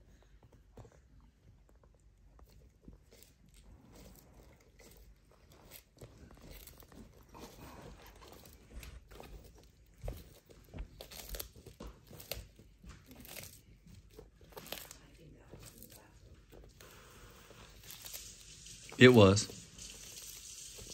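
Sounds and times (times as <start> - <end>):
tortoise crunching food: 0.0 - 20.9.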